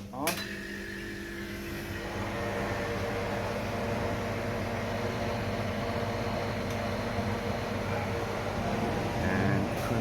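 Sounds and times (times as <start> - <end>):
condenser fan whirring: 0.0 - 10.0.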